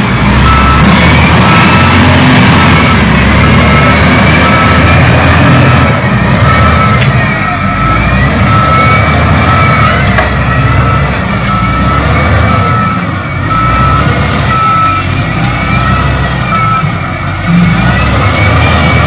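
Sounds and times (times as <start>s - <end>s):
diesel engine running: 0.0s - 19.0s
reversing alarm beeping: 0.3s - 19.0s.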